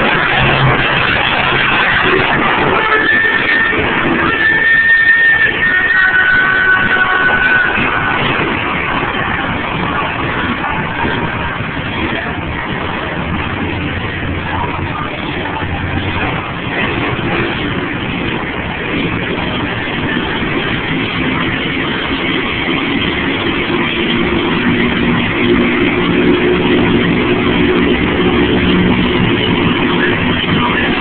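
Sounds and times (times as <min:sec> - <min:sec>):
monster truck engine running: 0:00.0 - 0:31.0.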